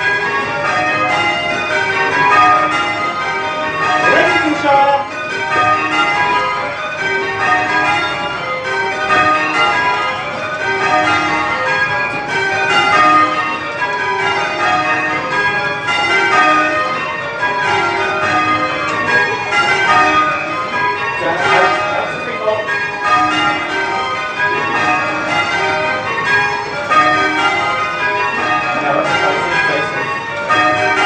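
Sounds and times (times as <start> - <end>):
church bells ringing changes: 0.0 - 31.0.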